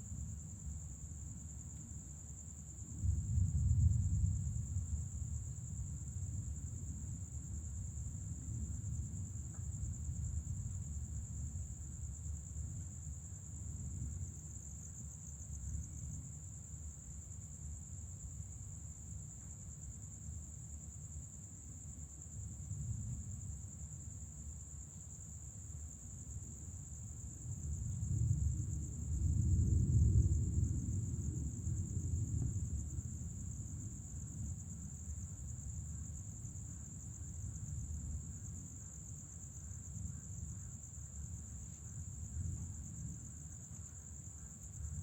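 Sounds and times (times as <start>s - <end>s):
night insects trilling: 0.0s - 45.0s.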